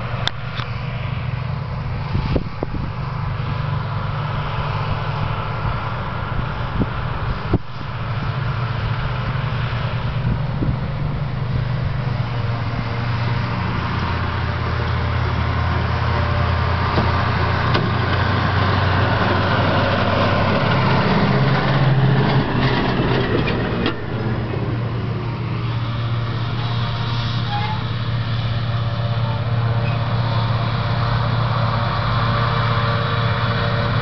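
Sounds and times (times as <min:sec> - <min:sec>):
diesel engines running: 0:00.0 - 0:34.0.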